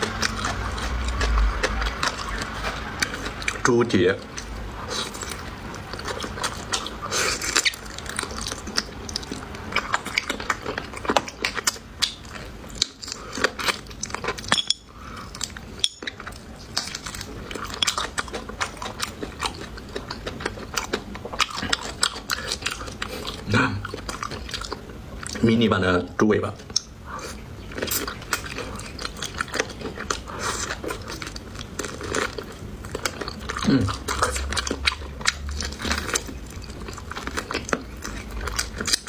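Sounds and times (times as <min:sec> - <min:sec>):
wet chewing and gnawing: 0:00.0 - 0:25.7, 0:26.5 - 0:39.0.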